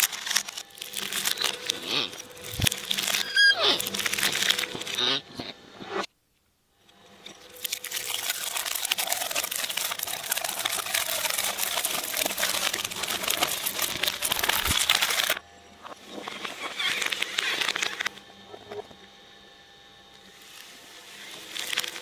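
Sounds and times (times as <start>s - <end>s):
shredder crunching material: 0.0s - 6.1s, 7.2s - 19.1s, 20.0s - 22.0s.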